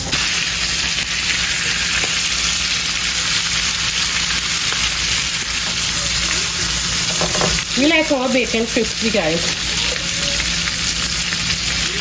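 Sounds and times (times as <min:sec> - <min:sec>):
bacon sizzling in a pan: 0:00.0 - 0:12.0.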